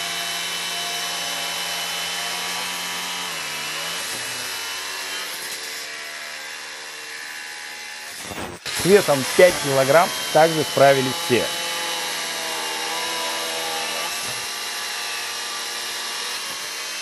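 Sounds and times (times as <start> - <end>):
angle grinders cutting steel: 0.0 - 17.0.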